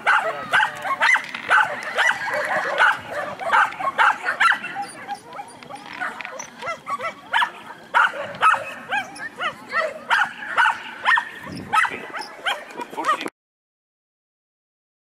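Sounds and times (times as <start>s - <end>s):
dog barking rapidly: 0.0s - 13.2s.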